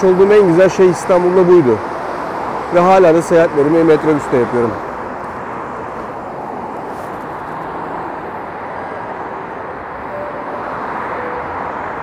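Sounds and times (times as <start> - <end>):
dense highway traffic rushing: 0.0 - 12.0.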